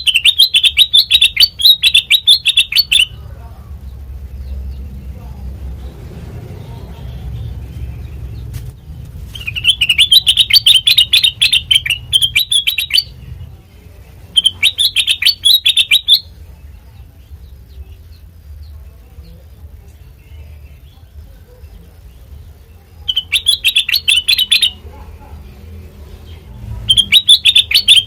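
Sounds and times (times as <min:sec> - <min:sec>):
steady low hum: 0:00.0 - 0:27.8
bulbul chattering song: 0:00.0 - 0:28.0.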